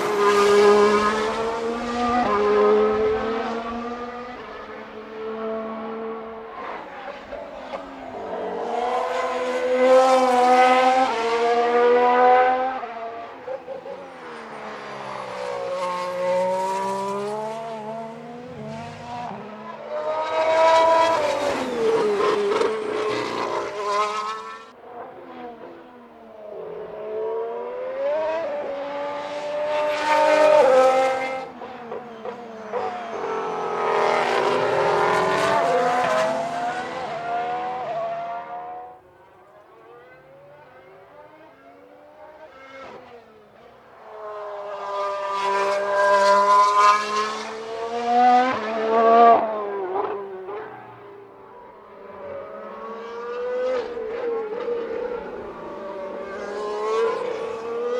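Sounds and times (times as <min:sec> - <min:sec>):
racing car engines passing by: 0:00.0 - 0:57.9.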